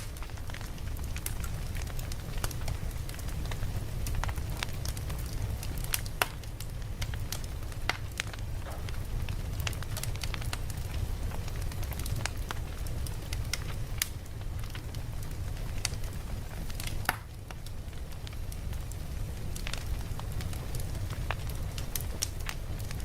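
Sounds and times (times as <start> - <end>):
campfire crackling and popping: 0.0 - 23.0
low rumble of flames: 0.0 - 23.0.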